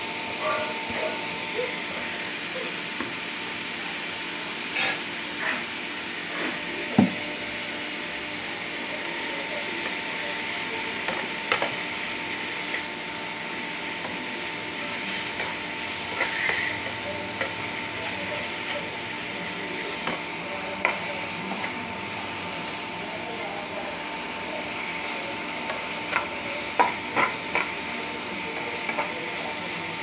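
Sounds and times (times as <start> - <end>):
carrot sizzling in a frying pan: 0.8 - 30.0.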